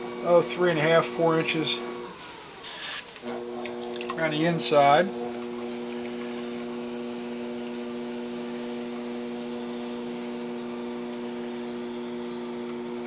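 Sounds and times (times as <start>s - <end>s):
potter's wheel motor humming: 0.0s - 13.0s.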